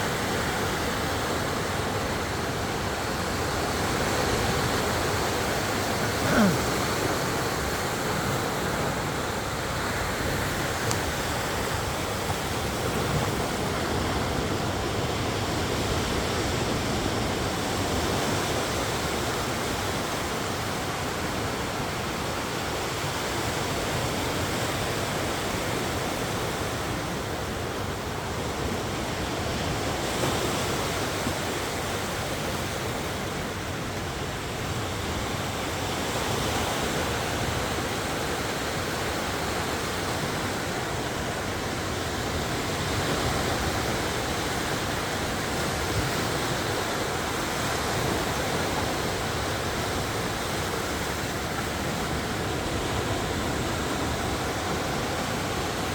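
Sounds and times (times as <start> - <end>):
sea waves breaking on shore: 0.0 - 55.9.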